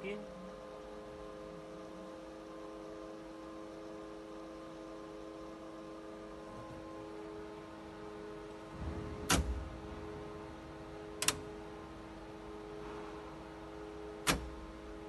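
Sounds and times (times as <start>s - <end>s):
electrical hum with fan tones: 0.0s - 15.0s.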